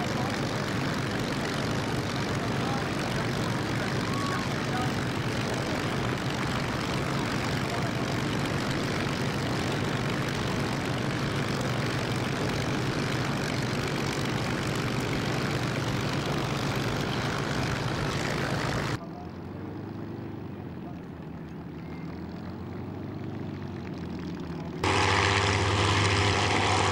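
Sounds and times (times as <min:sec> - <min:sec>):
piston aircraft engines running: 0:00.0 - 0:26.9.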